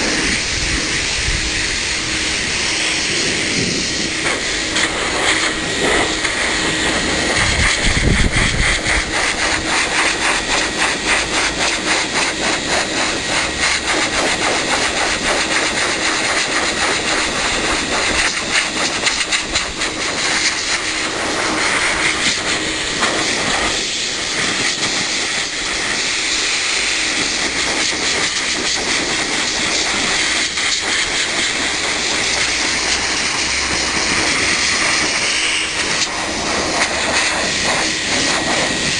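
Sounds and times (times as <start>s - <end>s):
dog dryer blowing air: 0.0s - 38.9s.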